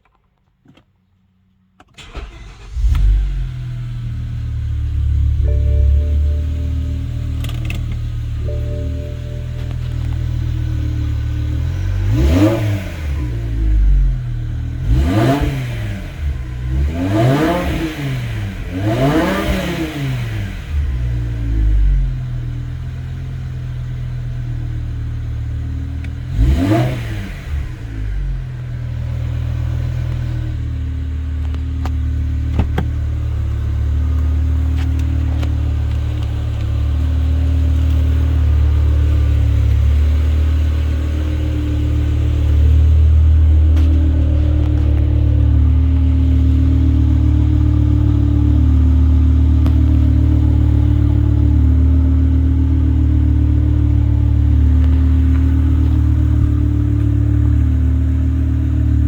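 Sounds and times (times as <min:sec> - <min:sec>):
car engine idling: 0:02.0 - 0:59.0
car engine revving: 0:02.0 - 0:59.0.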